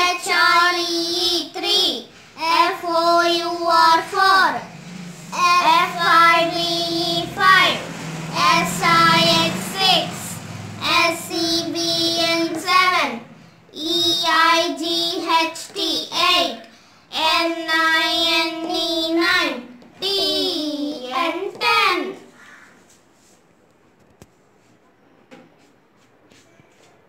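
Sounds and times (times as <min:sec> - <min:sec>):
child singing: 0:00.0 - 0:04.7, 0:05.3 - 0:22.3.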